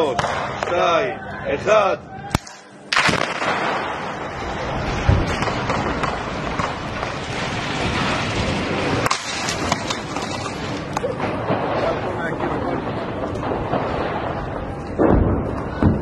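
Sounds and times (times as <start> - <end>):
sustained rumbling: 2.0 - 16.0
building demolition blast: 2.3 - 16.0
sharp crack: 2.3 - 16.0.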